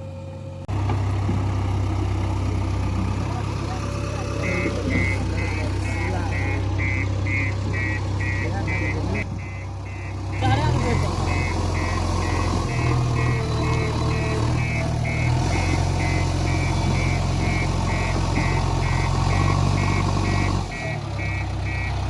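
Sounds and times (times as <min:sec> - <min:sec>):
heavy diesel engine running: 0:00.0 - 0:22.0
reversing alarm beeping: 0:03.8 - 0:22.0.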